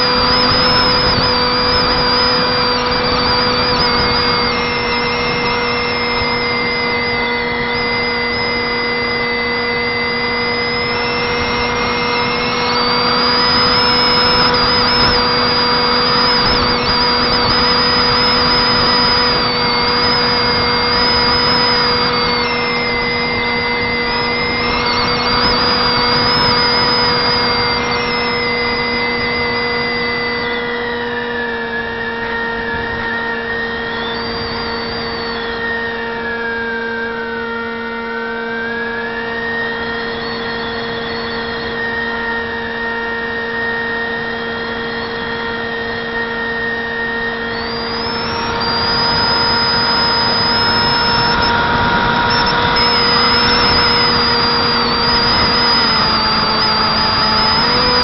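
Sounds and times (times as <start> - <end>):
electric motor propeller whining: 0.0 - 58.0.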